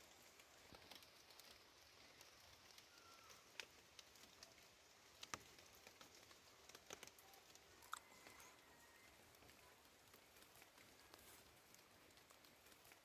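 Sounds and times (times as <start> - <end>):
raindrops tapping on leaves: 0.0 - 13.0
soft rain hiss: 0.0 - 13.0.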